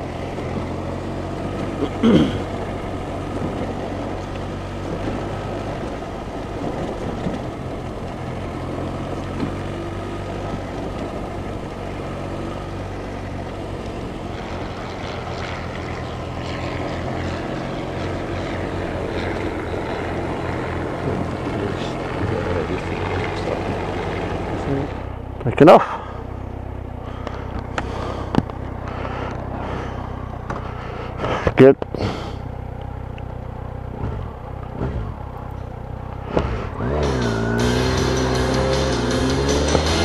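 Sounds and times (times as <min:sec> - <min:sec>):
propeller aircraft engine running: 0:00.0 - 0:40.0.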